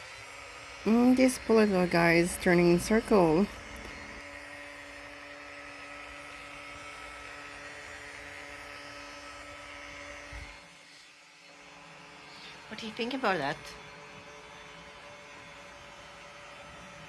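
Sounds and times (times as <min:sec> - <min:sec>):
robot vacuum motor hum: 0:00.0 - 0:17.0.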